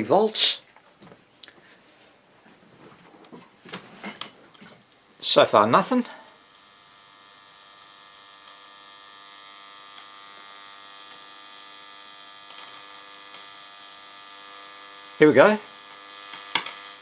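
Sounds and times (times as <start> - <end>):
radio speaker mains hum: 0.0 - 17.0.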